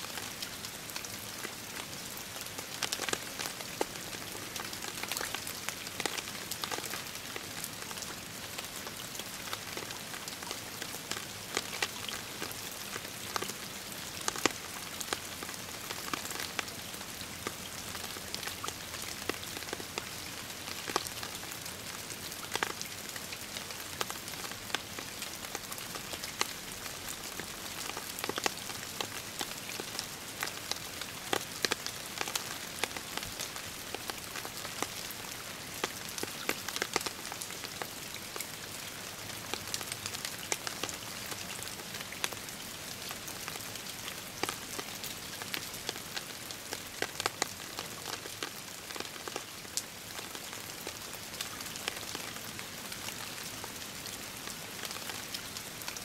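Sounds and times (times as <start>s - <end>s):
rain hissing on water: 0.0s - 56.0s.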